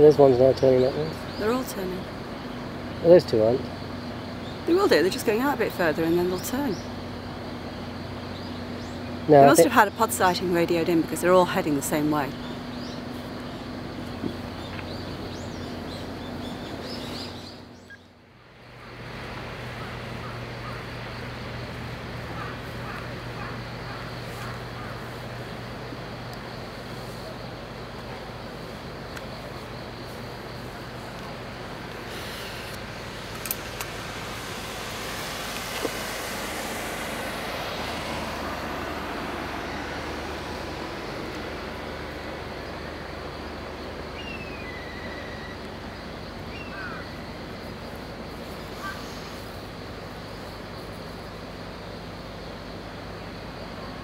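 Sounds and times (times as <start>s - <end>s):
low motor hum: 0.0s - 50.4s
outdoor hiss and low rumble: 0.0s - 54.0s.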